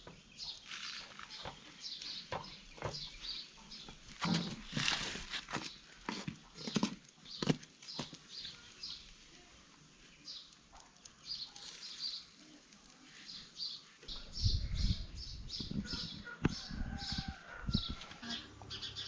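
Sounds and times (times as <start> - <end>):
birds chirping: 0.0 - 5.0, 5.6 - 19.0.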